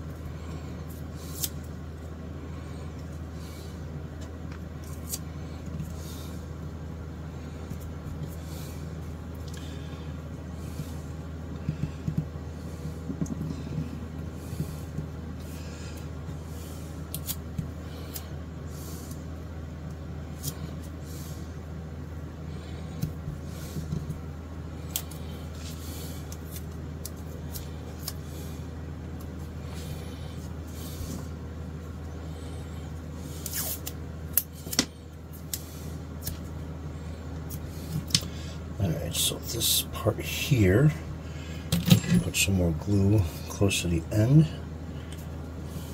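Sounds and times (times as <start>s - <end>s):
low room hum: 0.0s - 45.9s.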